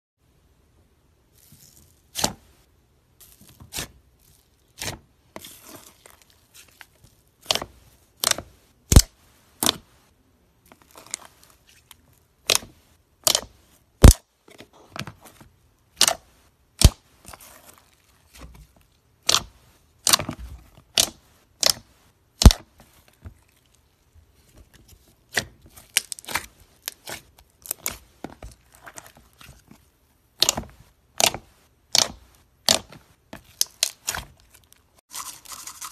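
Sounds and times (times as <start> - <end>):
fingers squeezing slime: 3.2 - 10.0, 10.7 - 14.2, 15.0 - 24.0, 24.6 - 34.7.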